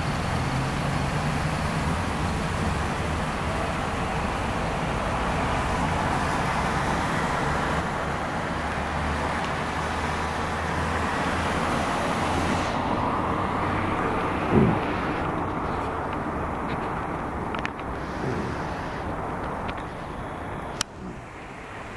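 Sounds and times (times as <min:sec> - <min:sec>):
car driving on wet road: 0:00.0 - 0:21.9
heavy rain on wet street: 0:00.0 - 0:21.9.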